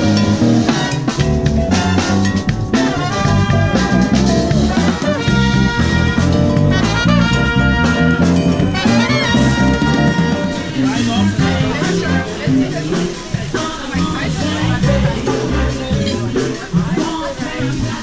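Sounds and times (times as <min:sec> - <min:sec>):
jazz big band playing: 0:00.0 - 0:18.0.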